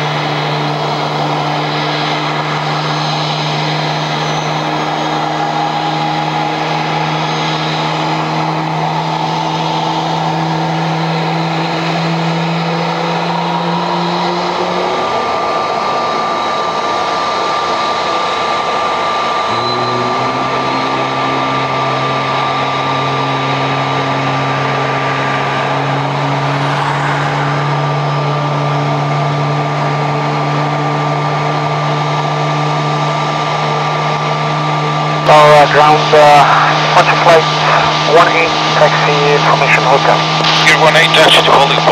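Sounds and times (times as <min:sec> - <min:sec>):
jet engines idling: 0:00.0 - 0:41.9.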